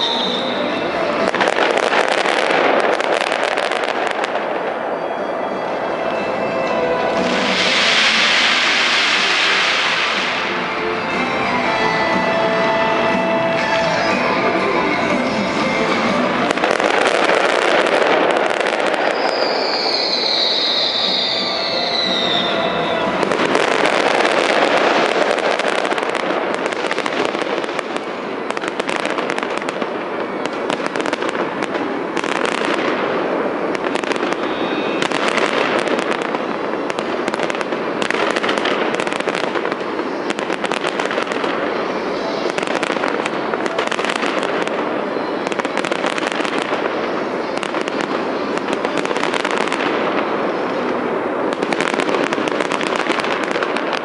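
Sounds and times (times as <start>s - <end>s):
fireworks crackling and popping: 0.0s - 54.0s.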